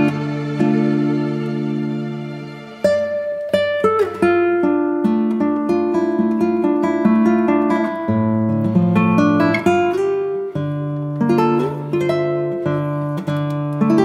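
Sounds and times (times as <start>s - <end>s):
acoustic guitar plucked and strummed: 0.0s - 14.0s.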